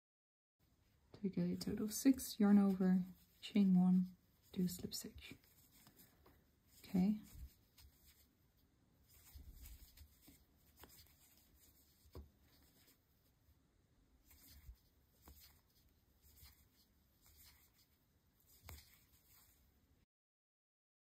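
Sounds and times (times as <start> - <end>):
yarn rustling: 1.6 - 13.4, 14.2 - 19.7.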